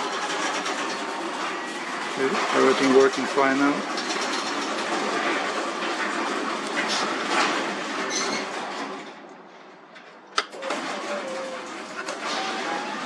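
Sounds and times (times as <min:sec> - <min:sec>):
garage door rattling on tracks: 0:00.0 - 0:13.0.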